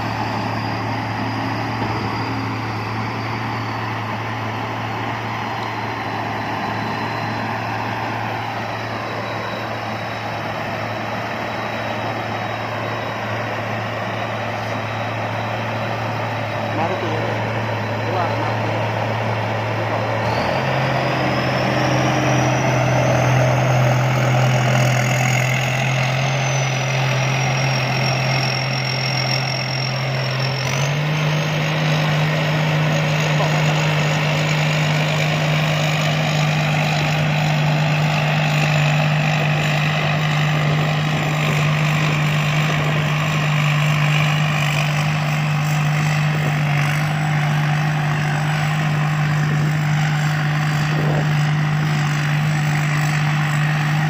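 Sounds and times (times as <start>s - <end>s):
combine harvester engine running: 0.0s - 54.0s
thin high whine: 0.0s - 54.0s.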